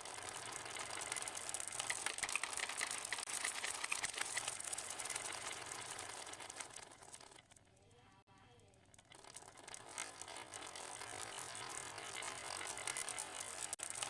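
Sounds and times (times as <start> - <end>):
marbles rolling down ramps: 0.0 - 7.7, 8.6 - 14.0.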